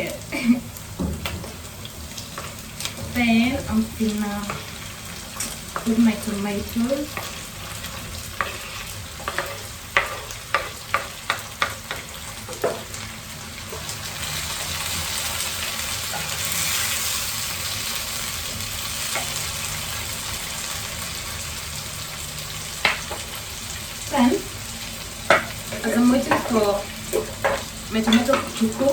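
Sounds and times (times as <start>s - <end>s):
tomatoes sizzling in a pan: 0.0s - 28.9s.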